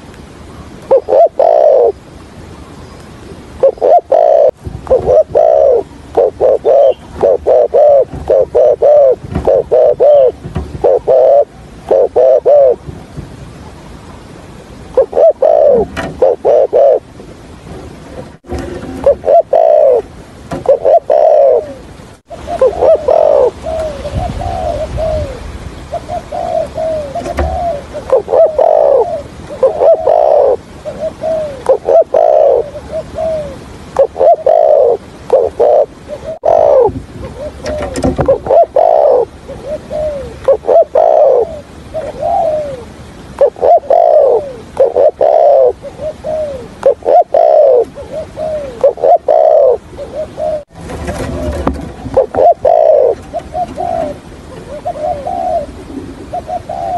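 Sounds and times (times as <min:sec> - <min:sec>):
dove cooing: 0:00.9 - 0:02.0, 0:03.6 - 0:12.8, 0:14.8 - 0:17.2, 0:18.1 - 0:56.9.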